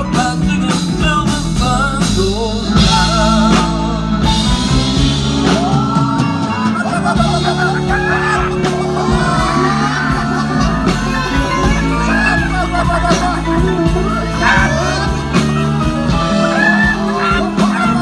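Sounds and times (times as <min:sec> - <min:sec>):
drum beats: 0:00.0 - 0:18.0
man singing: 0:00.0 - 0:18.0.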